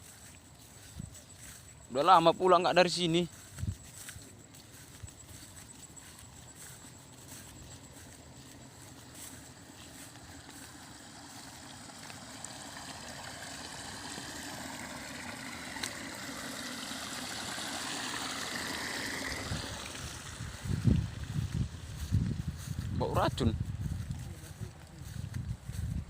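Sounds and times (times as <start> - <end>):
trickling water: 0.0 - 25.8.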